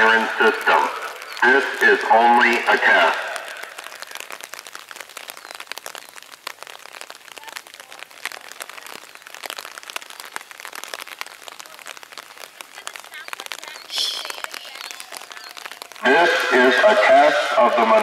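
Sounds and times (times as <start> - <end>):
raindrops tapping on an umbrella: 0.0 - 18.0.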